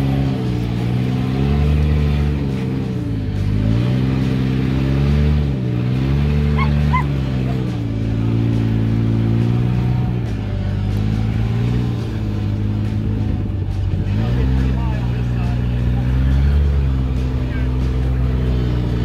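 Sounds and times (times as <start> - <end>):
car engine revving under load: 0.0 - 19.0.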